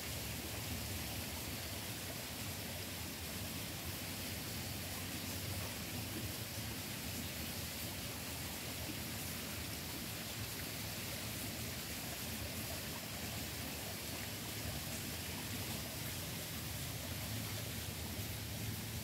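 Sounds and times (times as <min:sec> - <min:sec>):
forest ambient noise: 0:00.0 - 0:19.0.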